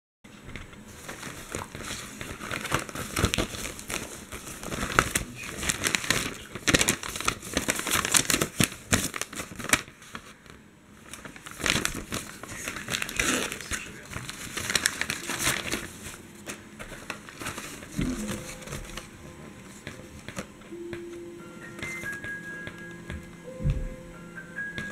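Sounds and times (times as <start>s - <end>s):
plastic packaging crinkling: 0.5s - 23.0s.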